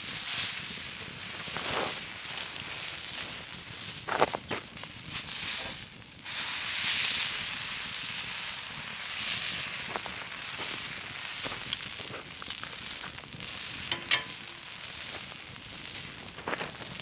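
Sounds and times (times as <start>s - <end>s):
sausages sizzling on grill: 0.0s - 17.0s
wood fire popping and crackling: 0.0s - 17.0s.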